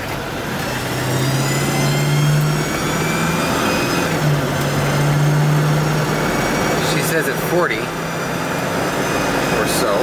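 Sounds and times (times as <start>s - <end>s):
engine drone inside car: 0.0s - 10.0s.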